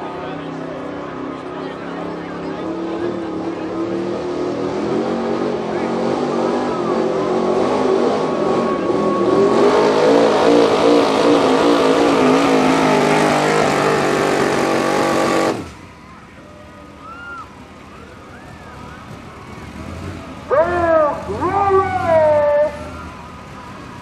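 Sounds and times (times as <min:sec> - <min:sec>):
pickup truck engine under full load: 0:00.0 - 0:24.0.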